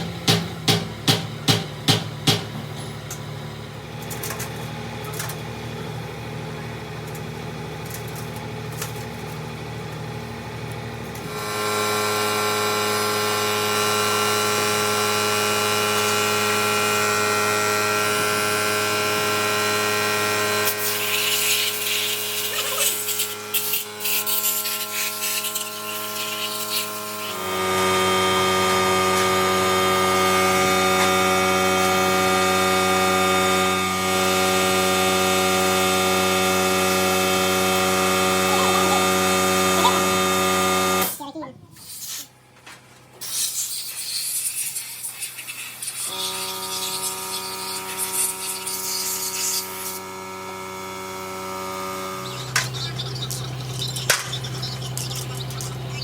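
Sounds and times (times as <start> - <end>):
power tool motor running: 5.0 - 41.2, 43.2 - 56.0.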